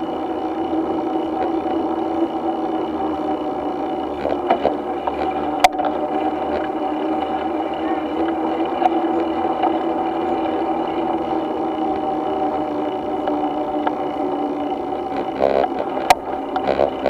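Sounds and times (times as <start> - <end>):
mechanical droning hum: 0.0 - 17.0.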